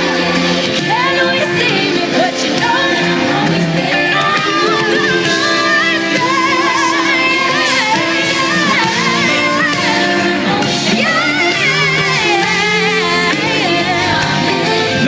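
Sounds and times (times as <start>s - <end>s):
live pop band: 0.0s - 15.0s
person singing lead vocal: 0.0s - 15.0s.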